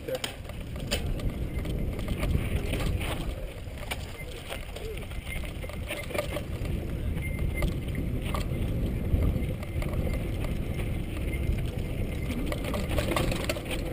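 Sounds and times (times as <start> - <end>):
bike rattling on rocky trail: 0.0 - 13.9
wind noise on microphone: 0.0 - 13.9.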